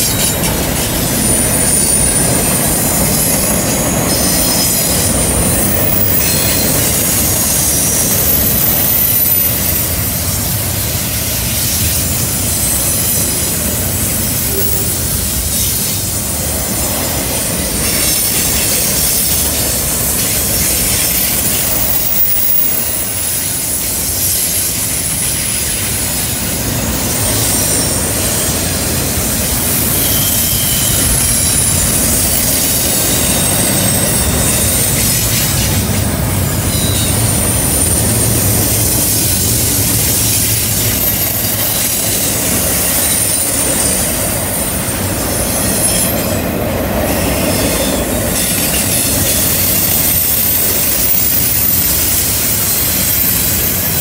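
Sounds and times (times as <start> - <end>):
train wheels rumbling and clattering: 0.0 - 54.0
wheel flange squeal: 0.0 - 54.0.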